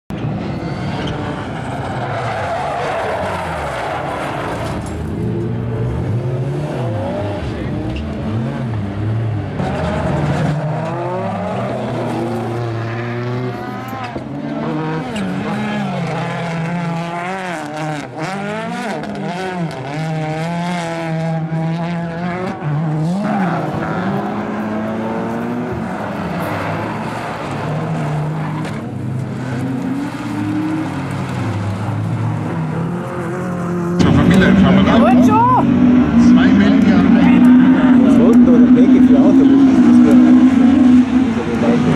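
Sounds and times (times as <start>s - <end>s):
racing car engines revving: 0.1s - 41.9s.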